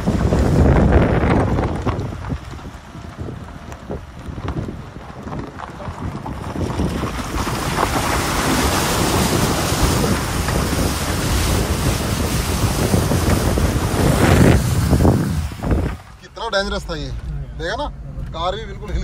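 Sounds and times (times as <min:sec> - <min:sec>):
water rushing and splashing: 0:00.0 - 0:19.0.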